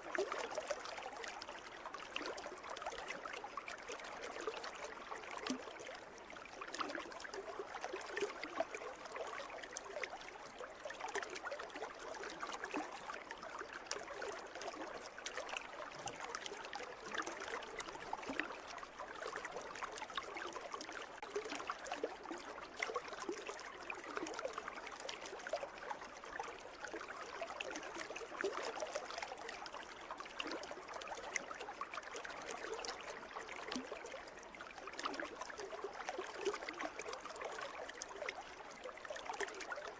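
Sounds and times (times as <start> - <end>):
water trickling into a pool: 0.0 - 39.9.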